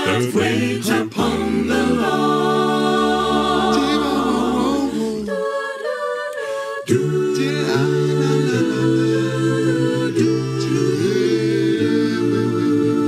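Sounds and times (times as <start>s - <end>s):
voices singing in harmony: 0.0s - 13.0s.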